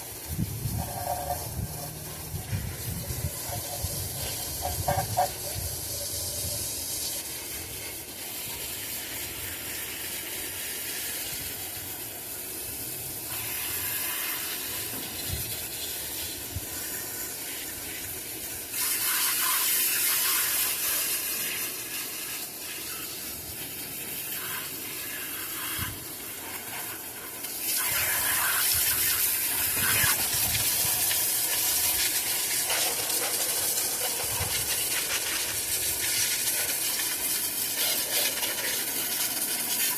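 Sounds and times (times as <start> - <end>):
liquid spray hissing: 0.0 - 39.9.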